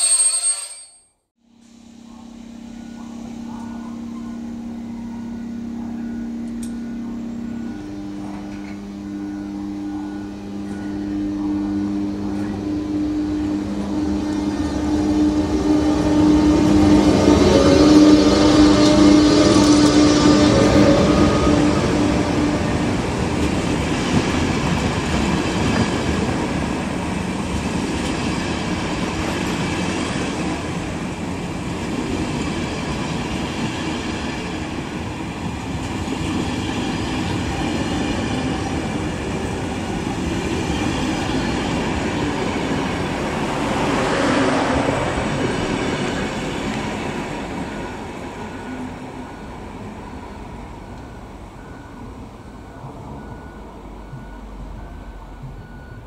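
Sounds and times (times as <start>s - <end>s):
train wheels rumbling on rails: 7.5s - 56.0s.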